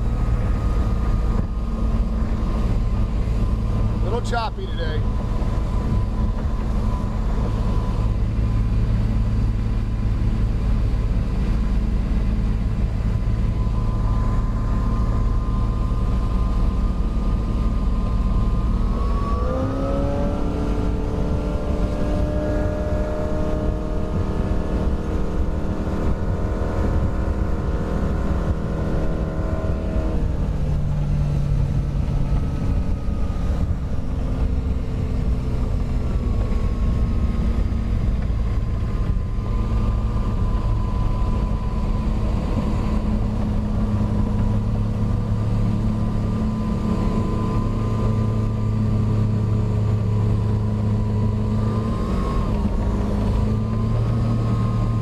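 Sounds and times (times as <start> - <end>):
boat engine running at speed: 0.0 - 55.0.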